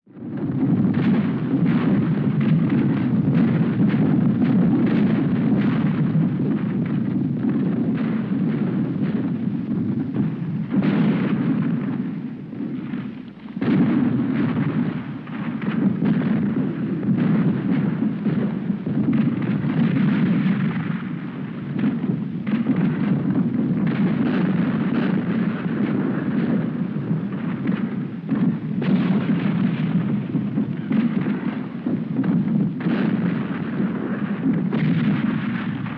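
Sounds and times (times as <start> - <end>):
cannon fire: 0.1 - 35.9
gunfire: 0.2 - 35.9.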